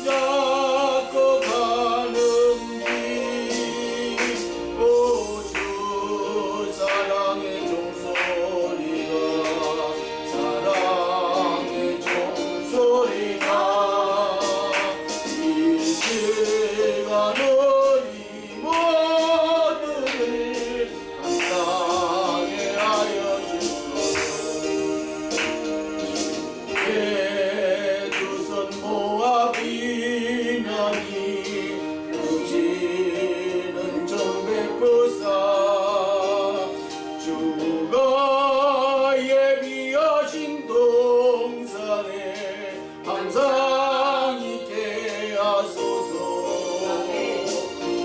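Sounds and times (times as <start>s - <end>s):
gospel singing with vibrato: 0.0s - 48.0s
instrumental accompaniment: 0.0s - 48.0s.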